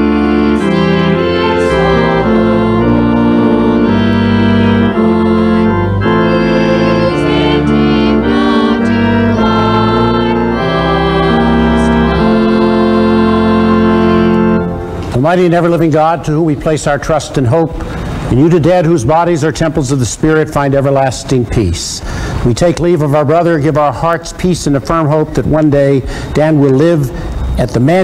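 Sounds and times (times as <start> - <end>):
organ playing slow chords: 0.0 - 28.0.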